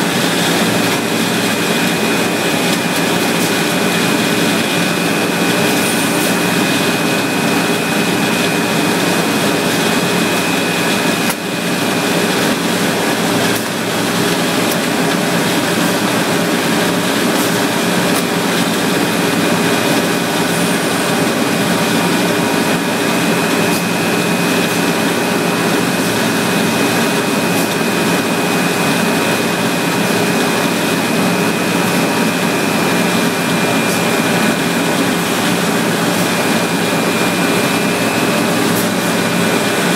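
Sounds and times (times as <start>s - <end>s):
high machine whine: 0.0s - 39.9s
industrial machinery drone: 0.0s - 39.9s.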